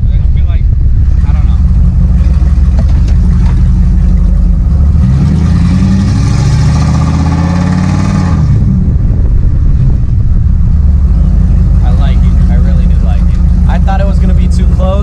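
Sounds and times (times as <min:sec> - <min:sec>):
road and wind noise rush: 0:00.0 - 0:15.0
vehicle engine running under load: 0:00.0 - 0:15.0.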